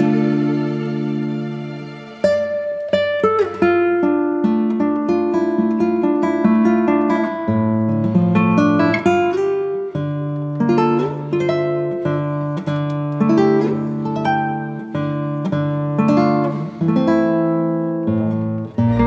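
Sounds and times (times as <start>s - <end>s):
plucked acoustic string instrument: 0.0s - 19.0s.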